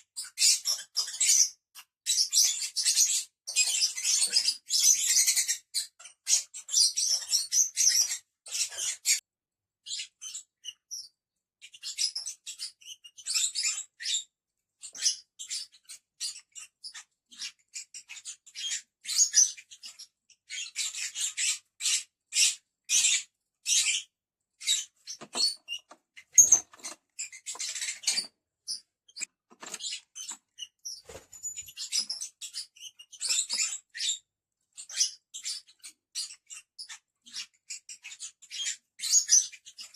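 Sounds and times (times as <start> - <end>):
lovebirds chirping: 0.0 - 9.2, 9.8 - 39.9.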